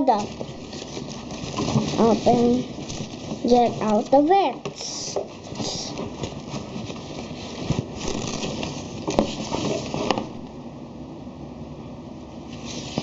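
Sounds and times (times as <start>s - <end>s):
packaging crinkling and rustling: 0.1s - 10.5s.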